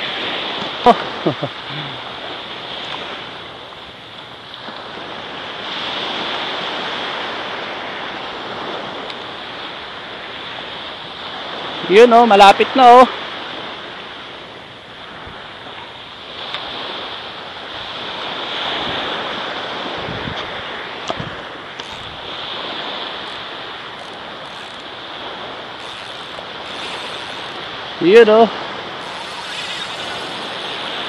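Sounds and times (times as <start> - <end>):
small waves washing on sand: 0.0 - 31.0
wind on microphone: 0.0 - 31.0.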